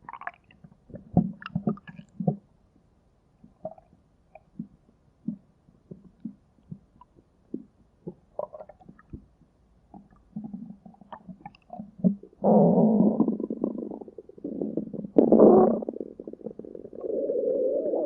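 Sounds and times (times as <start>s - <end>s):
stomach growling and gurgling: 0.0s - 2.5s, 3.4s - 18.0s.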